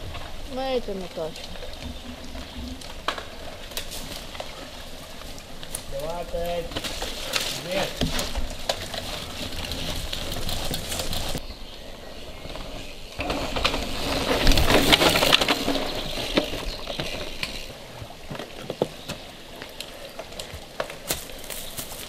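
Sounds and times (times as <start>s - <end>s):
bike tyres crackling over dirt trail: 0.0s - 22.0s.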